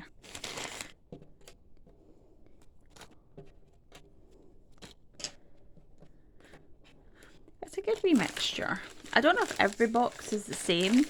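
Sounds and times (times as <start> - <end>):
jigsaw pieces clicking and rustling: 0.1 - 1.9, 2.5 - 11.0.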